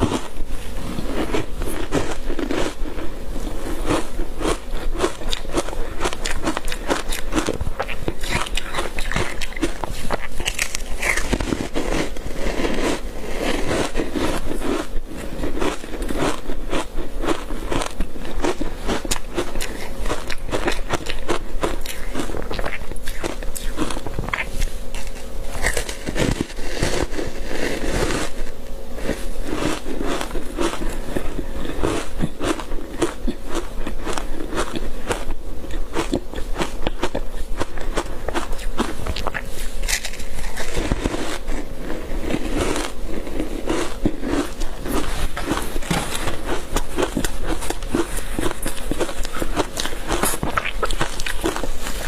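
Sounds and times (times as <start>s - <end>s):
crunching frozen ice: 0.0s - 52.0s.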